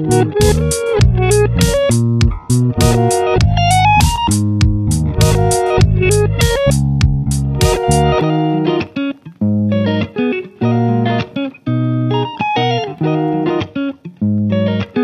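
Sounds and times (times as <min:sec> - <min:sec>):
plucked guitar tune: 0:00.0 - 0:15.0.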